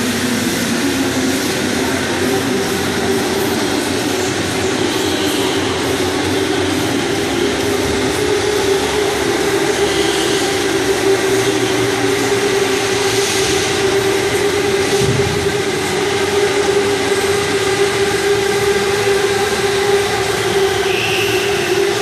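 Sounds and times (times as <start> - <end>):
continuous wash of noise: 0.0 - 22.0
electric go-kart motors whining: 0.0 - 22.0.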